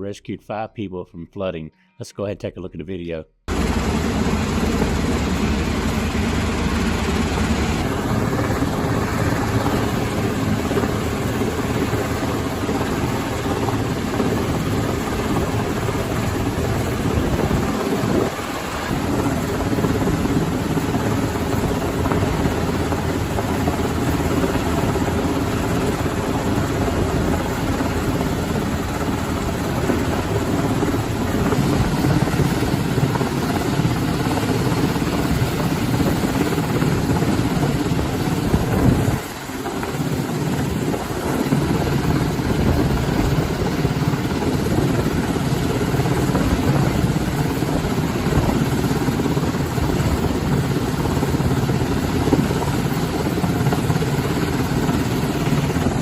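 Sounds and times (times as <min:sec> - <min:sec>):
helicopter rotor and engines: 0:03.5 - 0:56.0.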